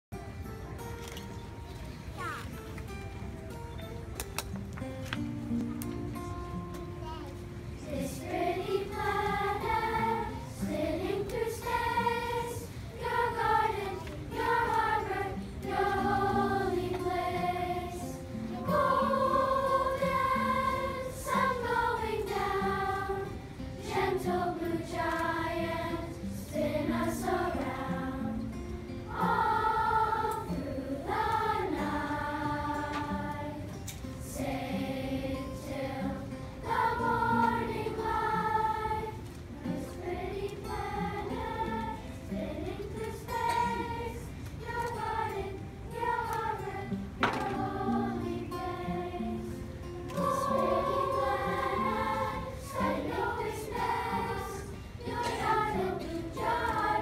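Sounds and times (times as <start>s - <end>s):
acoustic guitar: 0.1s - 57.0s
children's choir singing: 7.7s - 57.0s.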